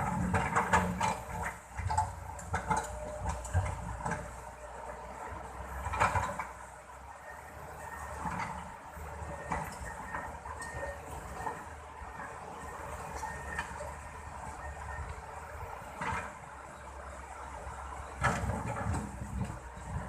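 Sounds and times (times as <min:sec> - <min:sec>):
excavator engine rumbling: 0:00.0 - 0:20.0.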